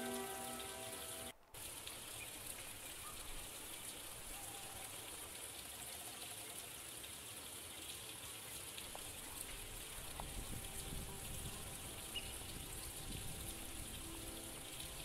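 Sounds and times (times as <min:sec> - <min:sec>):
outdoor ambience hiss: 0:00.0 - 0:15.0.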